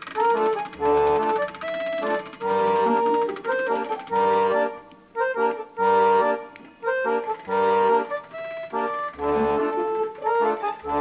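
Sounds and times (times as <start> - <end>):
melody of held notes: 0.0 - 11.0.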